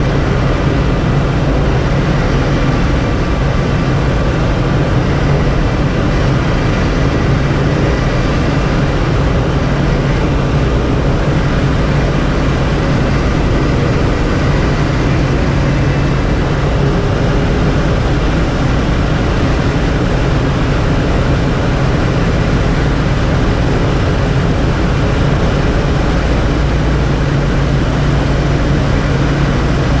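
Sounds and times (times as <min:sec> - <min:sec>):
turboprop engine and propeller drone: 0:00.0 - 0:30.0.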